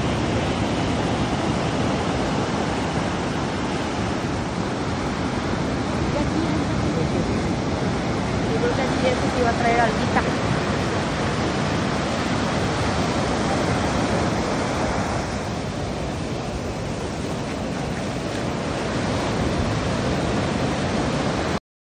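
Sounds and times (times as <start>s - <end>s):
ocean surf breaking on beach: 0.0s - 21.6s.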